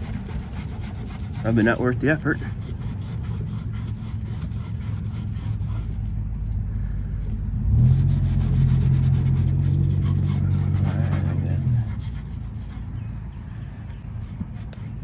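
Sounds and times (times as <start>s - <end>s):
faint rubbing strokes: 0.0s - 15.0s
vehicle engine humming: 0.0s - 15.0s.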